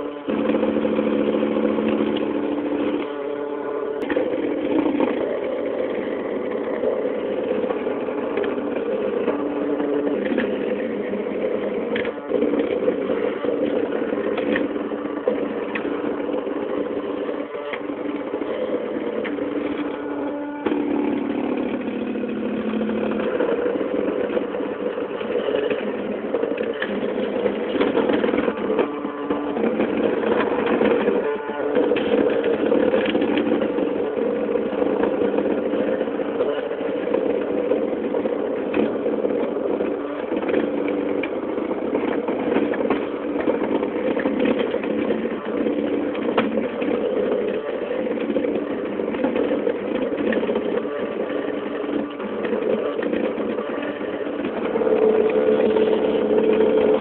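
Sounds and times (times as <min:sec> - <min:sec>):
stepper motors whining: 0:00.0 - 0:57.0.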